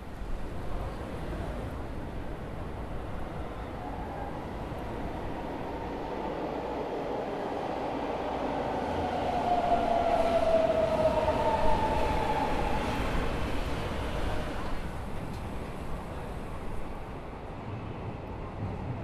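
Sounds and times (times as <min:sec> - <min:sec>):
subway train rumble: 0:00.0 - 0:19.0.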